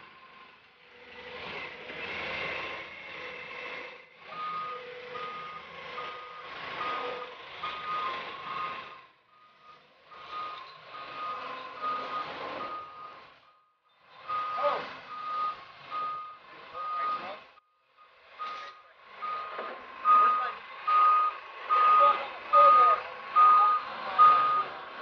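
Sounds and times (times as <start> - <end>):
forklift engine running: 0.0 - 25.0
reversing alarm beeping: 3.8 - 24.8.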